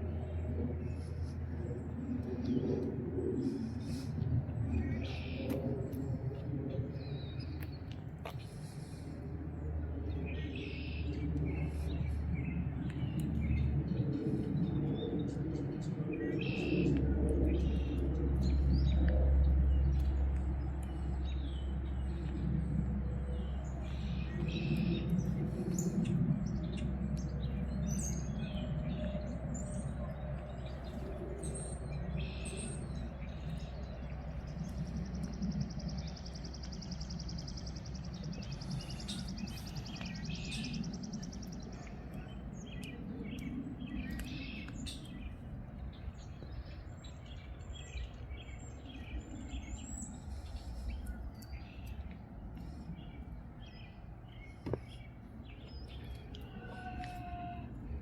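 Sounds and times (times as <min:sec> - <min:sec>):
low rumble: 0:00.0 - 0:58.0
songbirds chirping: 0:00.0 - 0:58.0.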